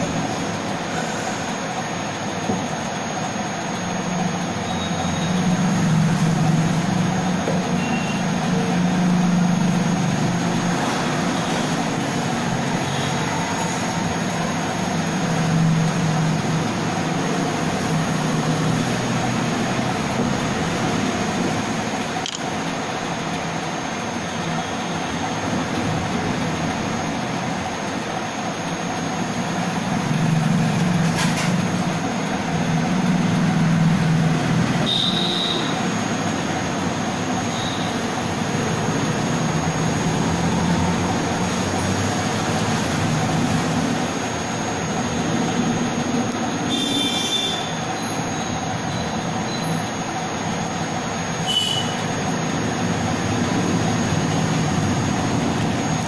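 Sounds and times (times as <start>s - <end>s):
mechanical rumble and hiss: 0.0s - 56.0s.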